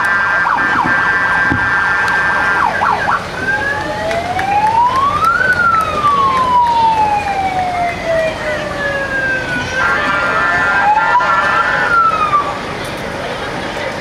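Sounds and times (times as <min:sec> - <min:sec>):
emergency vehicle siren: 0:00.0 - 0:12.8.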